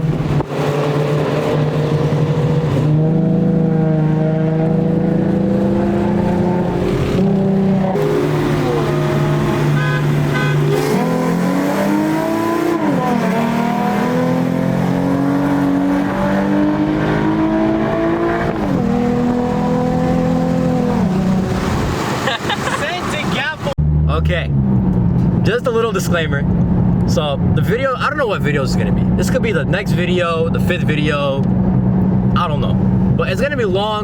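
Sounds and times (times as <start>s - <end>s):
car engine under throttle: 0.0s - 34.0s.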